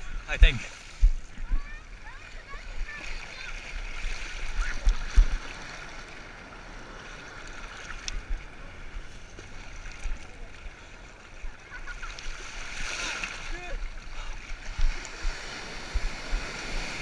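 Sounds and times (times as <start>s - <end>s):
sea water sloshing and lapping: 0.0s - 17.0s
small water splashes: 0.0s - 17.0s.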